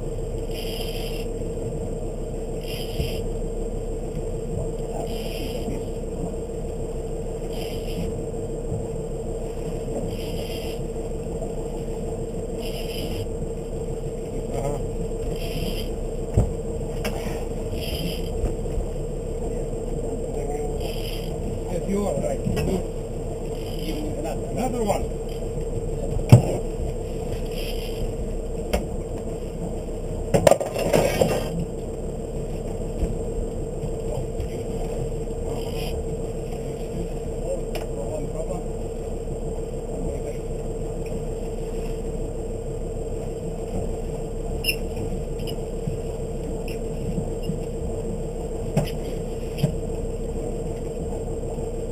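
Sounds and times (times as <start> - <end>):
boat engine rumbling: 0.0 - 51.9.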